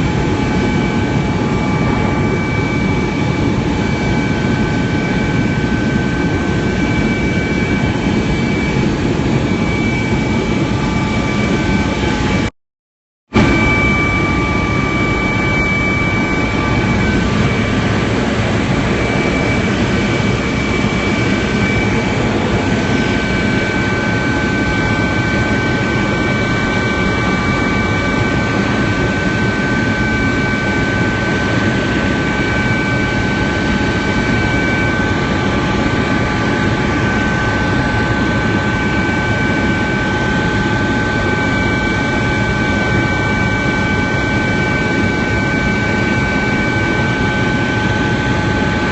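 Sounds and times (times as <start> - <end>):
helicopter drone inside cabin: 0.0 - 12.5, 13.3 - 48.9
high-pitched whines: 0.0 - 12.5, 13.4 - 48.9.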